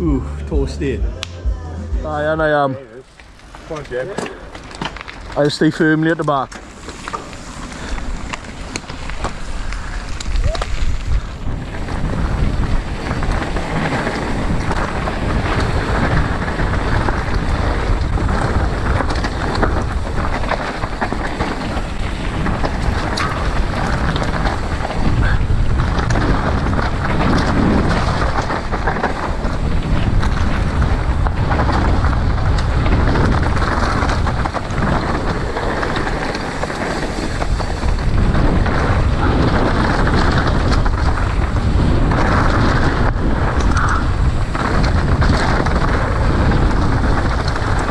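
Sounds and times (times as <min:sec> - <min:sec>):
mountain bike rumbling on trail: 0:02.1 - 0:47.9
stones and bike parts ticking: 0:03.0 - 0:47.9
wind buffeting microphone: 0:07.3 - 0:47.9.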